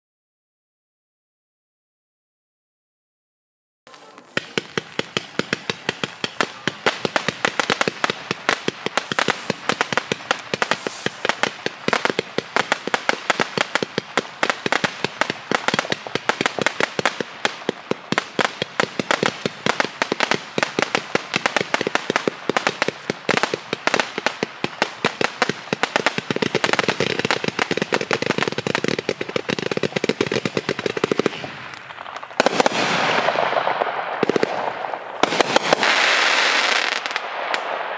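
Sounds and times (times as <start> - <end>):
firework comet shots crackling: 3.9 - 37.9.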